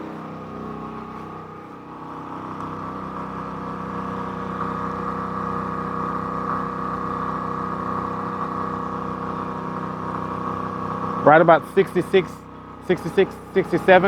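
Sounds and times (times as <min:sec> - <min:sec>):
generator engine hum: 0:00.0 - 0:14.0.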